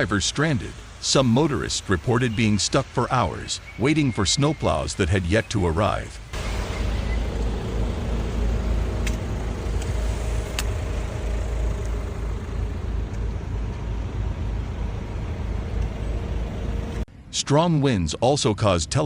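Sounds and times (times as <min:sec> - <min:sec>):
vehicle engine rumbling: 0:00.0 - 0:17.1.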